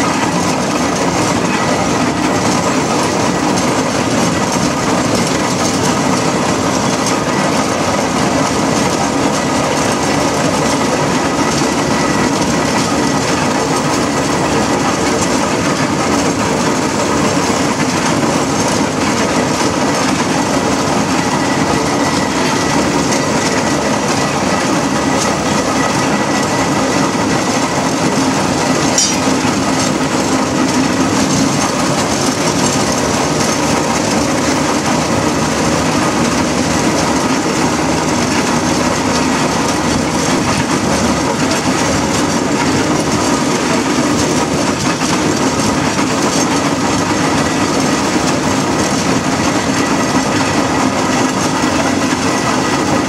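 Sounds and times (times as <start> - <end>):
steam engine running: 0.0 - 53.0
wheels rattling on road: 0.0 - 53.0.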